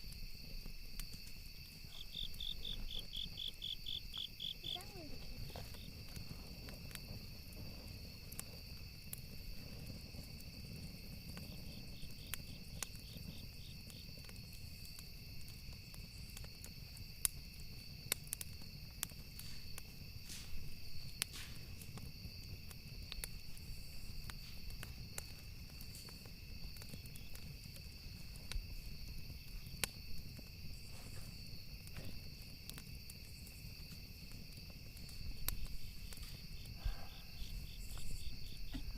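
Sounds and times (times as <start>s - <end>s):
campfire crackling: 0.0s - 38.9s
crickets chirring: 0.0s - 38.9s.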